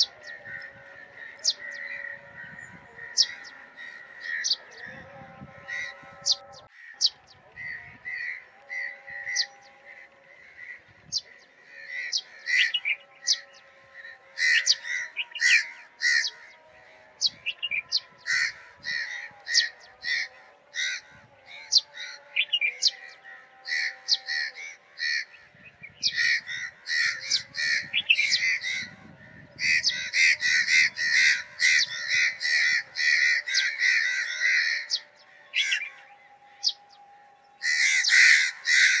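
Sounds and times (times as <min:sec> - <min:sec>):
sparrow chirping: 0:00.0 - 0:05.2, 0:05.8 - 0:09.8, 0:11.0 - 0:13.7, 0:14.4 - 0:16.5, 0:17.2 - 0:29.0, 0:29.6 - 0:37.0.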